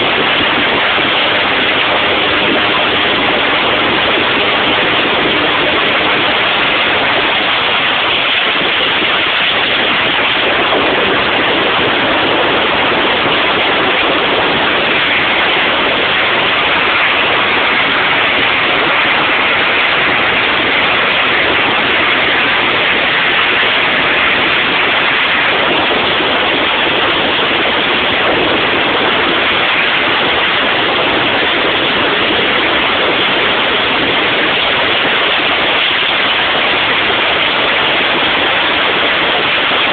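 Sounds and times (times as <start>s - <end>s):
turboprop engine roaring: 0.0s - 39.9s.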